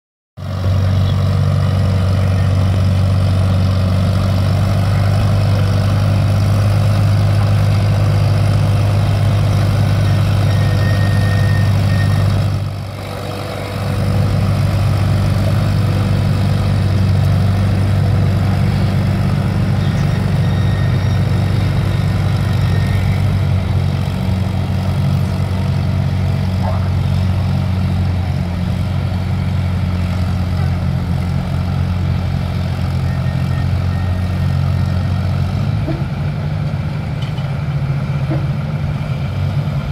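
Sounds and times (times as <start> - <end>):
tractor engine running hard: 0.4 - 39.9.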